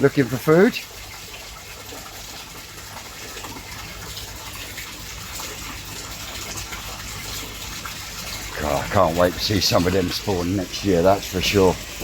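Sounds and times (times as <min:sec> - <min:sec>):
water splashing into tanks: 0:00.0 - 0:12.0.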